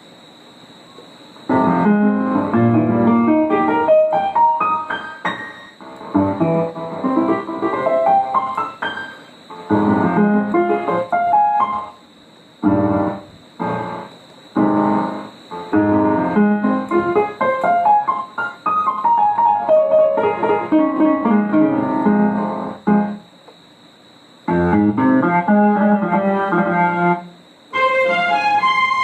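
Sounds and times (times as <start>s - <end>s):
keyboard piano runs: 0.7s - 29.0s
loud piano chords: 1.5s - 12.0s, 12.6s - 23.3s, 24.5s - 29.0s.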